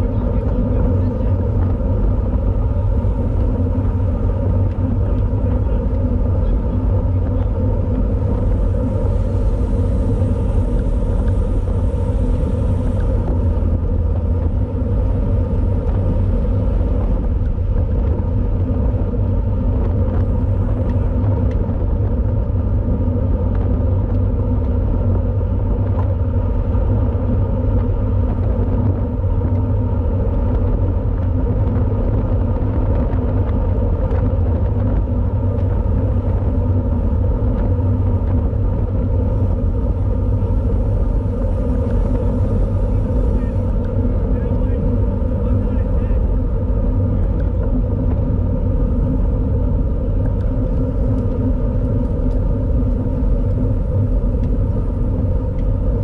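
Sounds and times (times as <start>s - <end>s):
road and drivetrain hum: 0.0s - 56.0s
wind rumble on microphone: 0.0s - 56.0s.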